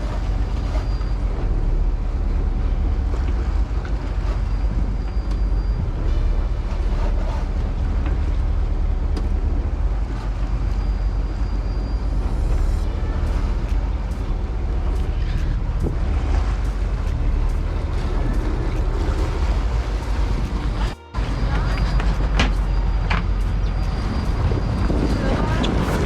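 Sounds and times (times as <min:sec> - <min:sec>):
boat engine rumbling: 0:00.0 - 0:26.0
sea water: 0:00.0 - 0:26.0
wind: 0:00.0 - 0:26.0.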